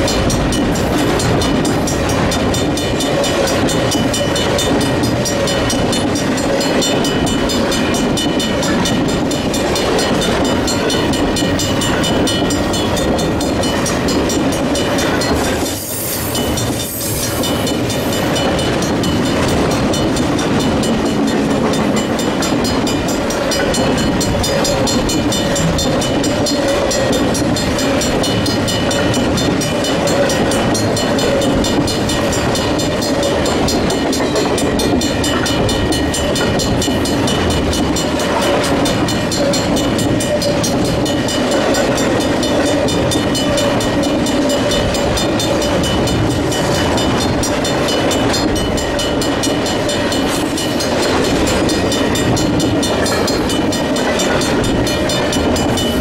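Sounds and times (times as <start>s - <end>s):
crossing bells ringing: 0.0s - 56.0s
steel wheels on rail: 0.0s - 56.0s.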